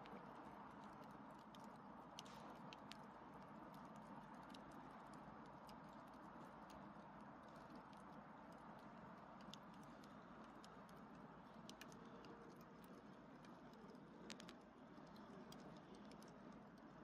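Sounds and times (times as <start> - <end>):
low steady hiss: 0.0 - 17.0
small wood fire crackling: 0.0 - 17.0.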